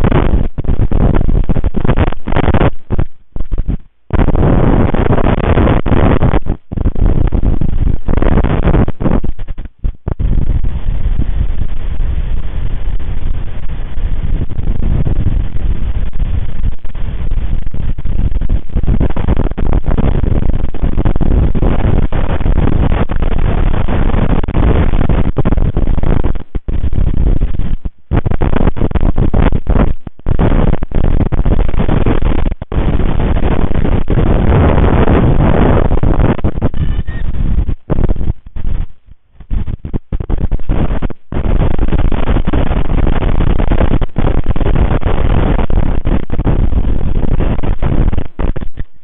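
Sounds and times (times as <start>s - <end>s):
gusty wind buffeting microphone: 0.0s - 49.0s.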